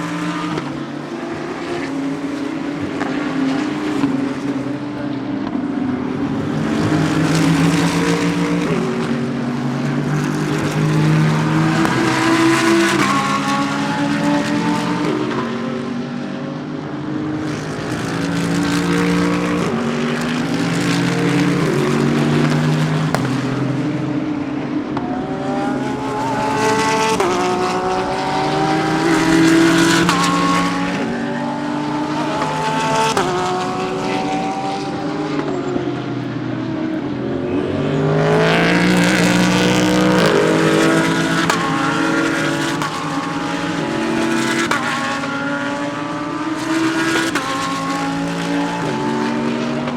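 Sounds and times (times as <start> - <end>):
race car engines accelerating: 0.0 - 49.9.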